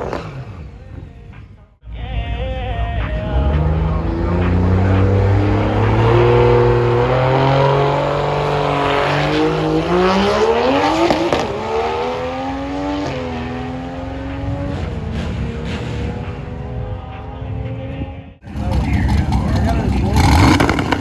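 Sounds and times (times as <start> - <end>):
drag car engine accelerating: 0.0 - 1.6, 2.2 - 21.0.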